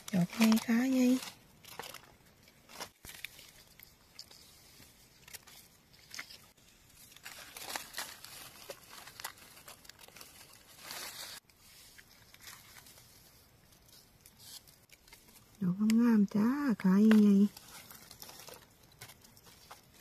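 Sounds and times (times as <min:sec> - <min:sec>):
dry leaves rustling and crackling: 0:00.0 - 0:15.4, 0:16.1 - 0:20.0.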